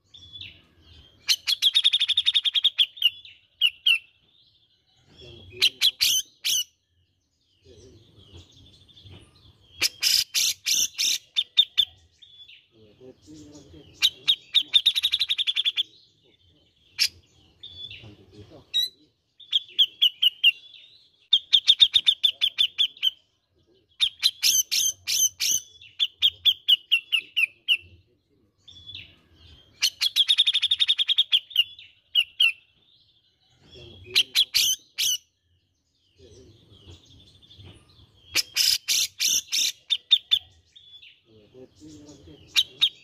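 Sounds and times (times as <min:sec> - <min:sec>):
bird chattering song: 0:00.0 - 0:43.0.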